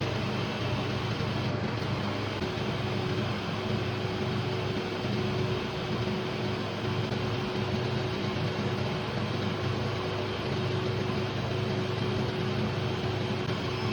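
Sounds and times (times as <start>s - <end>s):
drilling machines humming: 0.0s - 13.9s.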